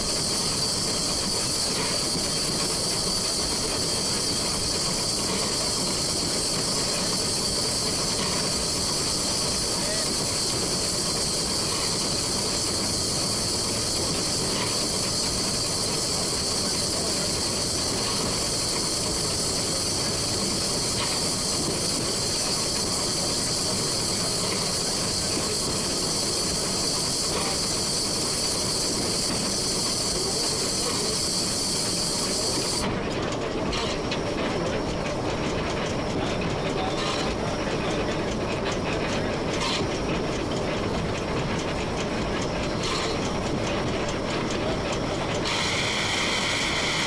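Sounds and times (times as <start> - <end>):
loud steam hiss: 0.0 - 32.9, 41.9 - 47.0
train rumbling: 0.0 - 47.0.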